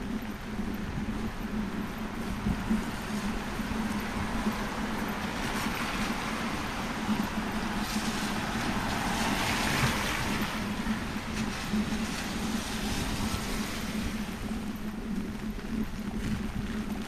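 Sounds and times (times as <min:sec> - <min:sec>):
cars passing on wet road: 0:00.0 - 0:17.0.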